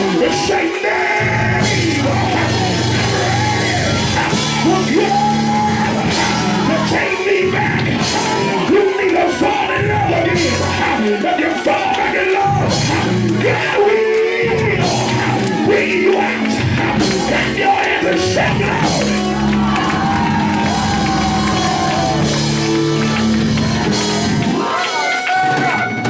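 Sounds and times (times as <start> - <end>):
person singing and shouting: 0.0 - 22.9
live band with drums and bass: 0.0 - 26.0.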